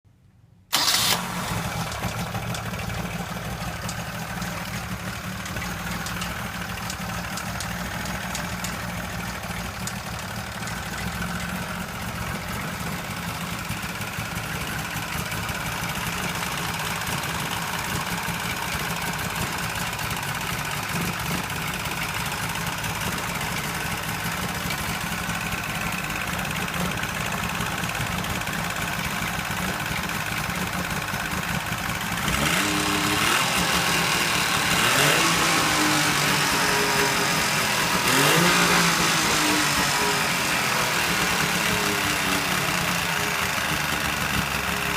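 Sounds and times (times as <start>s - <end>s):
two-stroke engine idling: 0.7s - 44.9s
abnormal engine knocking noise: 1.8s - 44.9s.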